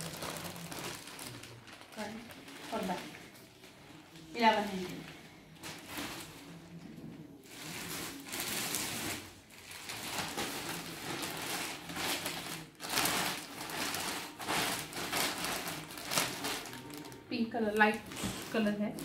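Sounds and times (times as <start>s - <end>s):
plastic bag rustling and crinkling: 0.0s - 19.0s.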